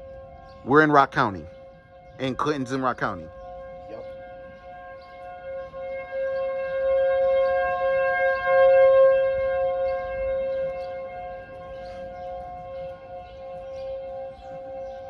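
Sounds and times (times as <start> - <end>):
tornado warning siren: 0.0 - 15.0.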